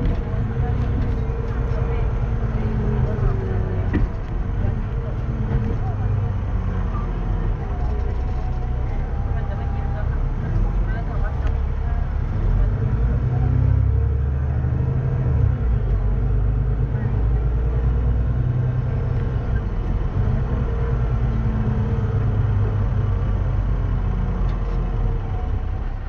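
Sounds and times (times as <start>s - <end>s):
diesel bus engine idling: 0.0s - 26.0s.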